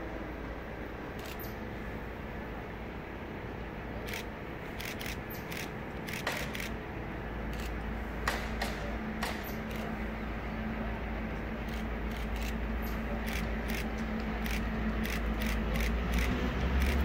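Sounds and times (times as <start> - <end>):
distant train rumble: 0.0 - 17.0.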